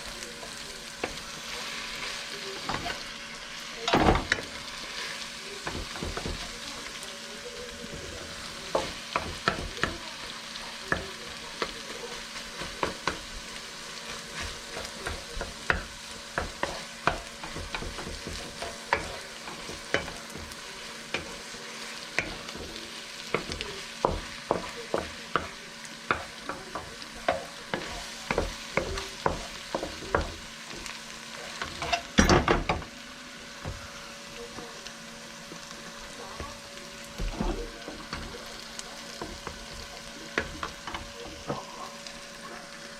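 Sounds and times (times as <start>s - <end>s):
rice sizzling in a pan: 0.0s - 42.9s.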